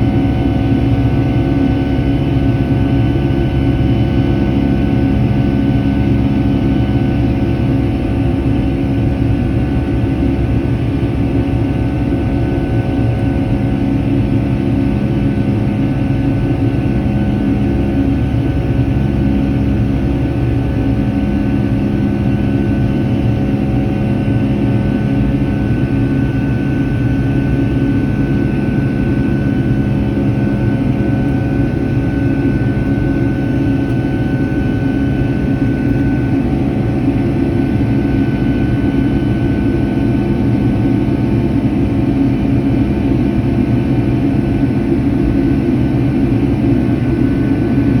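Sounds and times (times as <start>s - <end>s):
jet engine cabin drone: 0.0s - 48.0s.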